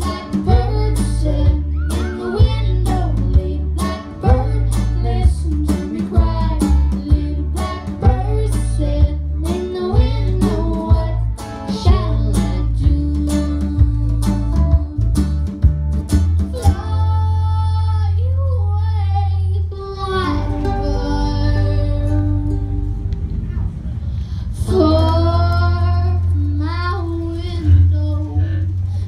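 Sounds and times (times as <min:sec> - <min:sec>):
girl singing: 0:00.0 - 0:15.6, 0:16.5 - 0:22.9, 0:24.3 - 0:29.0
country-folk band playing: 0:00.0 - 0:29.0.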